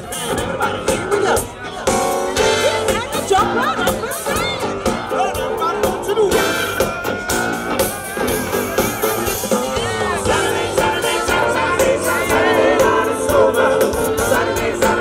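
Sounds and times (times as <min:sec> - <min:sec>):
live band playing: 0:00.0 - 0:15.0
person singing: 0:02.4 - 0:15.0.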